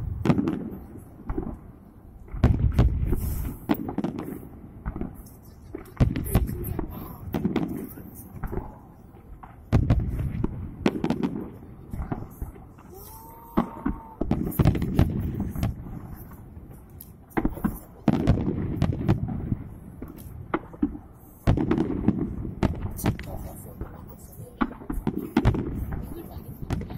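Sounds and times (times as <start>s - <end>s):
fireworks bangs: 0.0s - 26.9s.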